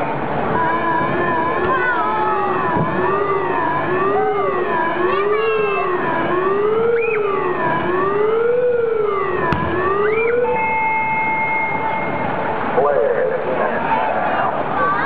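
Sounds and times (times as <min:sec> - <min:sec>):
siren wailing: 0:00.5 - 0:13.6.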